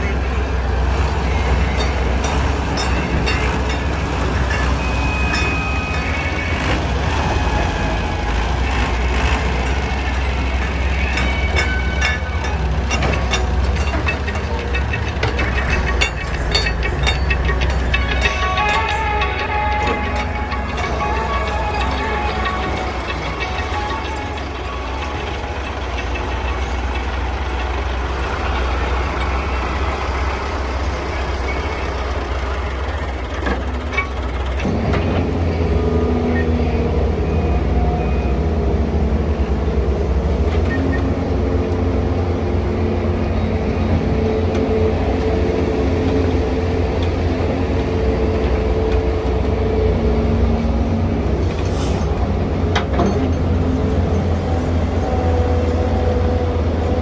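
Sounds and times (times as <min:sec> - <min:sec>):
excavator diesel engine and hydraulics: 0:00.0 - 0:57.0.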